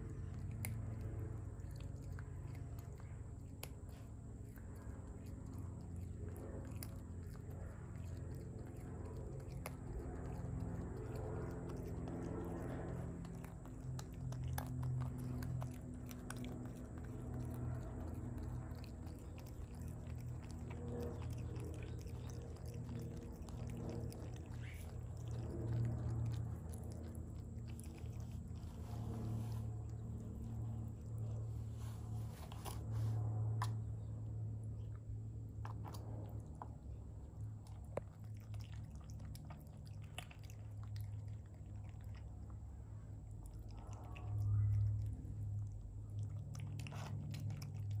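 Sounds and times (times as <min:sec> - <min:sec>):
animal chewing: 0:00.0 - 0:33.9, 0:34.6 - 0:48.0
steady low hum: 0:00.0 - 0:48.0.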